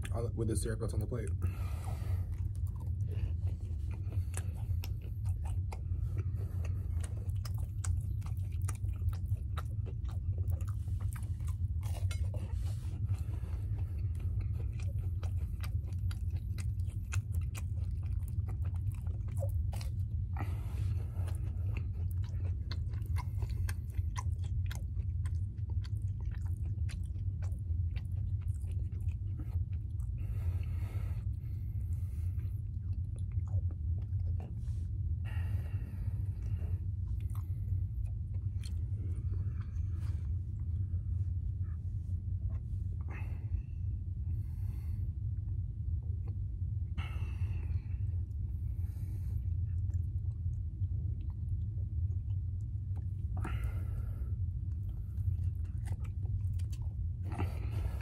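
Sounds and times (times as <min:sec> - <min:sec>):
close-up chewing and biting: 0:00.0 - 0:58.0
steady low hum: 0:00.0 - 0:58.0.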